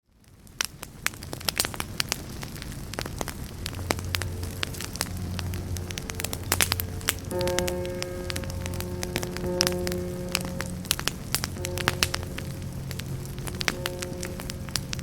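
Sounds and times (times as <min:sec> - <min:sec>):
low rumble of flames: 0:00.0 - 0:15.0
wood fire crackling: 0:00.0 - 0:15.0
sharp fire pops: 0:00.3 - 0:15.0.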